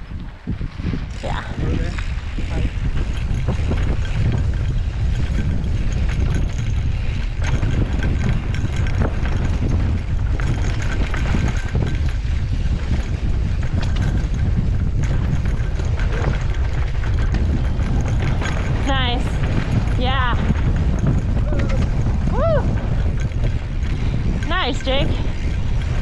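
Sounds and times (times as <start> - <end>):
bike rattling over bumps: 0.0 - 26.0
wind buffeting microphone: 0.0 - 26.0.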